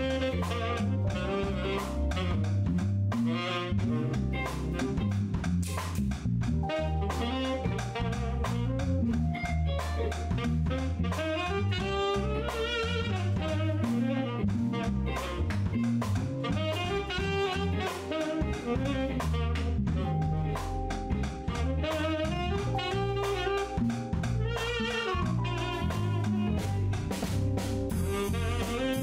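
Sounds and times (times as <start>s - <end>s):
saxophone melody: 0.0s - 5.6s, 6.5s - 29.0s
drum kit with cymbals: 0.0s - 29.0s
electric bass line: 0.0s - 29.0s
keyboard: 0.0s - 29.0s.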